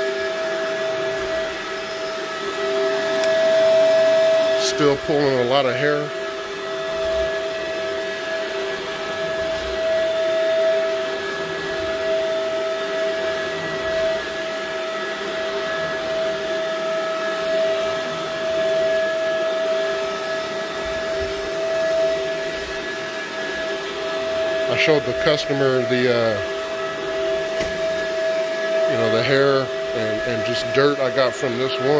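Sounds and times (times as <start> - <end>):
vacuum cleaner motor whine: 0.0 - 31.9.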